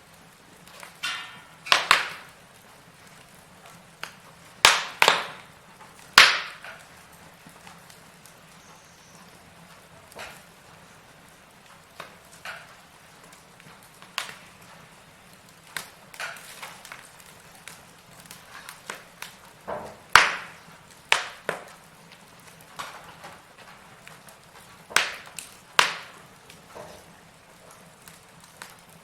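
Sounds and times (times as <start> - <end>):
firewood crackling and popping: 0.0 - 29.0.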